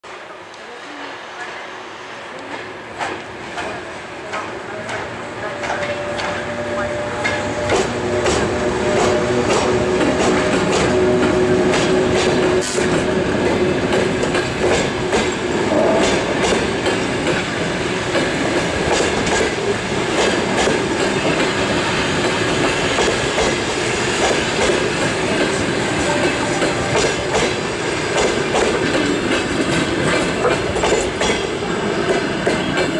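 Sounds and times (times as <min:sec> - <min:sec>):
electric locomotive humming: 0:00.0 - 0:32.9
train coaches rumbling: 0:00.0 - 0:32.9.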